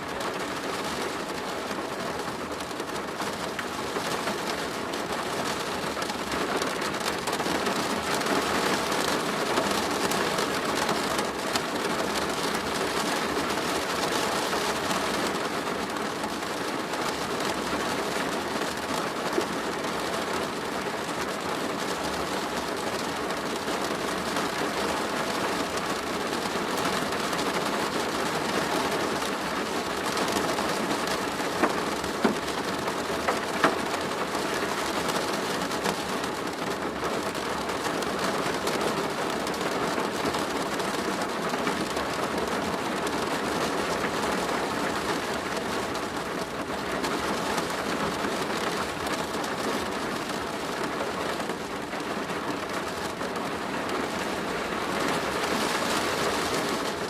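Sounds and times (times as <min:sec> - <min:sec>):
rain on a plastic roof: 0:00.0 - 0:57.0.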